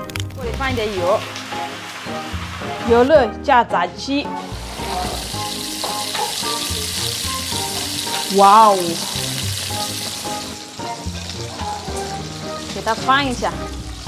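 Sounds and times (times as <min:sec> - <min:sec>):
light background music: 0:00.0 - 0:14.0
chicken sizzling in hot oil: 0:00.4 - 0:03.1, 0:04.3 - 0:14.0.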